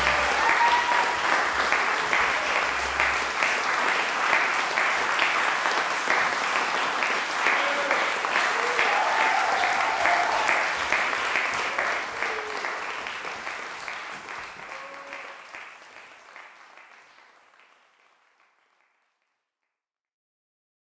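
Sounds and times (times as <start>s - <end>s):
audience applauding: 0.0s - 19.1s.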